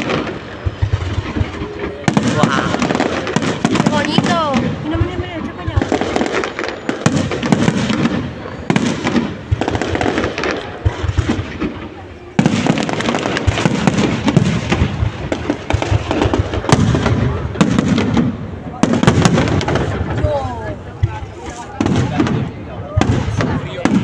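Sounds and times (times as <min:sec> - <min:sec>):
crowd voices: 0:00.0 - 0:24.0
fireworks bangs and crackling: 0:00.0 - 0:24.0.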